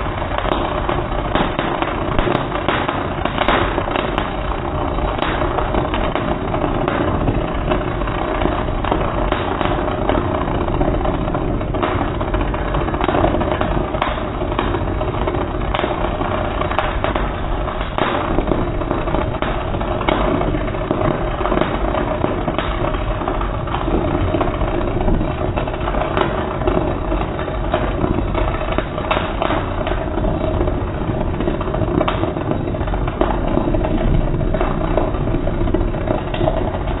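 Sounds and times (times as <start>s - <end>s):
constant hum: 0.0s - 37.0s
welding arc crackling: 0.0s - 37.0s.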